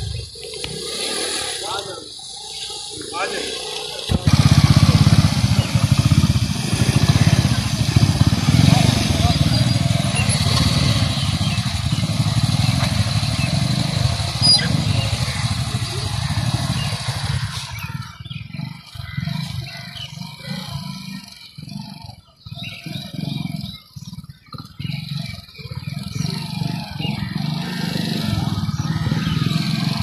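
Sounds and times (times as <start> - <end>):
small motorcycle engine: 0.0 - 30.0.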